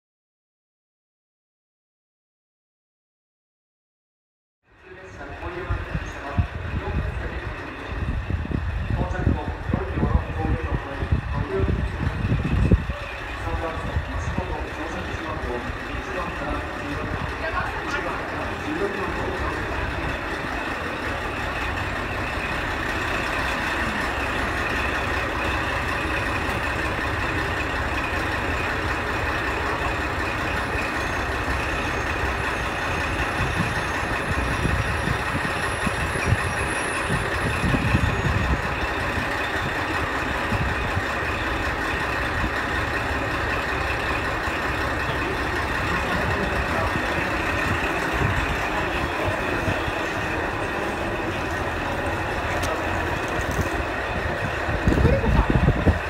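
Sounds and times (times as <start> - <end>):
diesel railcar idling: 4.6 - 56.0.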